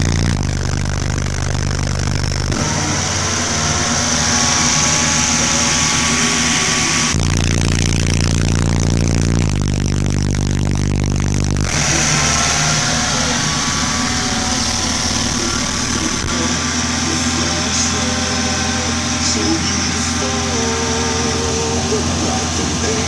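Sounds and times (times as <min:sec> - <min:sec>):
car engine running: 0:00.0 - 0:23.0
subwoofer deep bass tone: 0:00.0 - 0:23.0.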